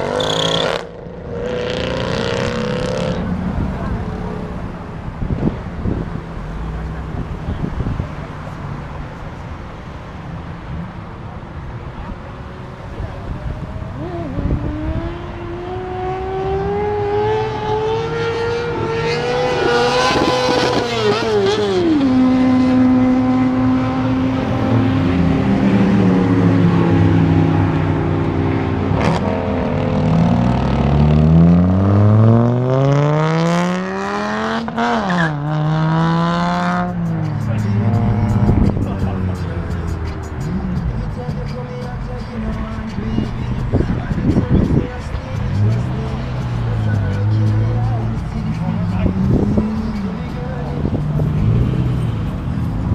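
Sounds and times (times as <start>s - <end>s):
car engines accelerating: 0.0s - 52.9s.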